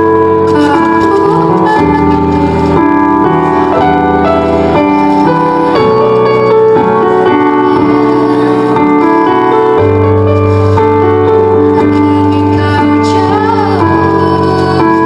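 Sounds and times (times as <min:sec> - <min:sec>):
piano-like keyboard chords: 0:00.0 - 0:15.0.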